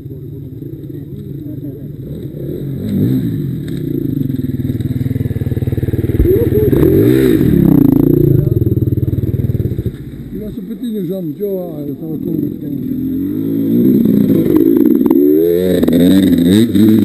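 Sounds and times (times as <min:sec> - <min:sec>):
dirt bike engine idling: 0:00.0 - 0:17.0
dirt bikes revving past: 0:00.0 - 0:17.0.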